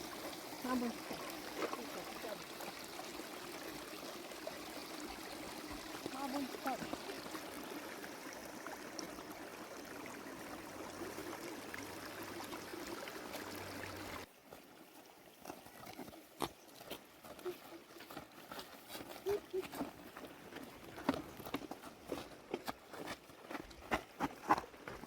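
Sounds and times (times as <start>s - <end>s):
spring water trickling: 0.0s - 23.6s.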